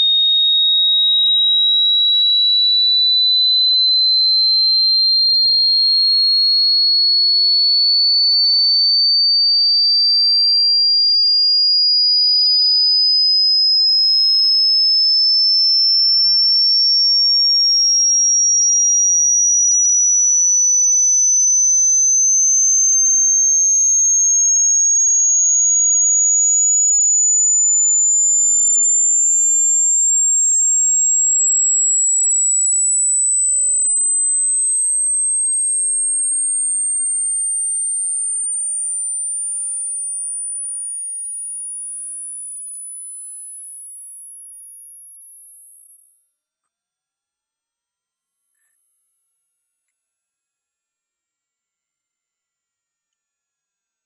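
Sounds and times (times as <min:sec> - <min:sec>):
rising sine-wave test tone: 0:00.0 - 0:46.3.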